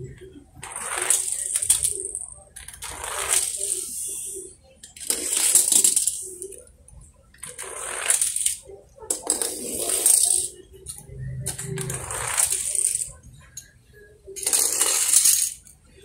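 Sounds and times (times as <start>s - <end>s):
toy cars rolling and rattling: 0.0s - 6.7s, 7.3s - 13.7s, 14.4s - 15.8s.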